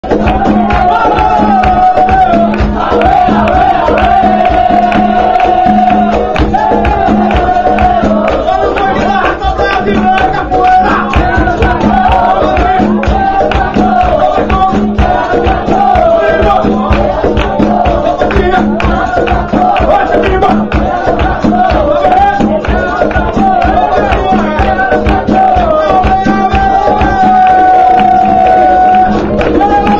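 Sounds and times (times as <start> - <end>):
voices singing: 0.0 - 29.9.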